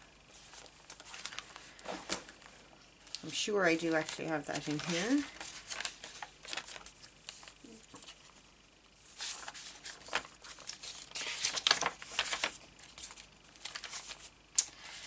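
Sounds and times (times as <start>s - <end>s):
paper pages rustling: 0.3s - 2.5s, 3.9s - 15.0s.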